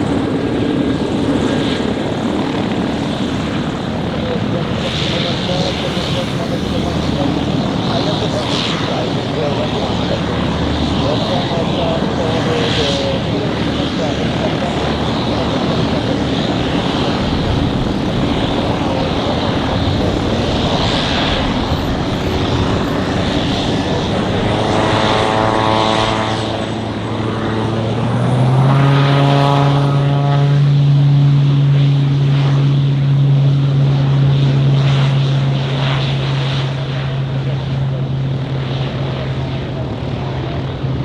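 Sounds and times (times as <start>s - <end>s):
propeller buzzing: 0.0s - 41.0s
turboprop engine running: 0.0s - 41.0s.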